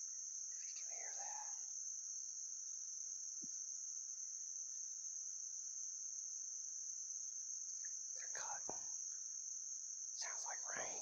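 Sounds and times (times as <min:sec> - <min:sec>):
crickets chirping drone: 0:00.0 - 0:11.0.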